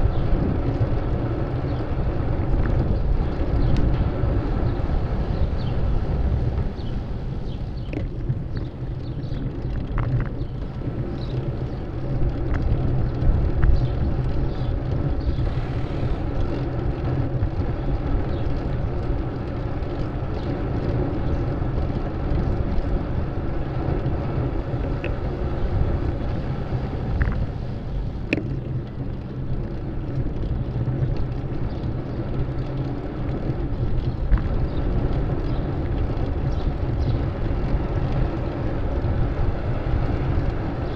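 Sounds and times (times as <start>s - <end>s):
traffic and riding rumble: 0.0s - 40.9s.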